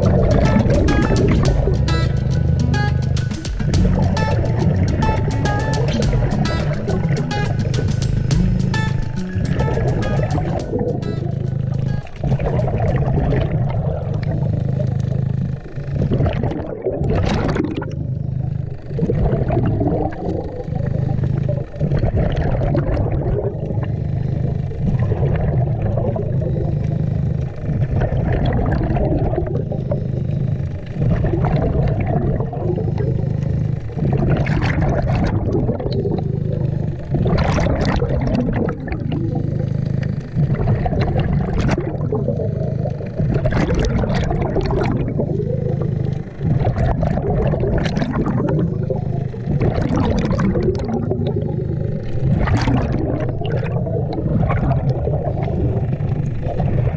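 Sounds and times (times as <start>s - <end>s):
bubbles gurgling underwater: 0.0s - 2.9s, 3.6s - 56.9s
steady low rumble: 0.0s - 56.9s.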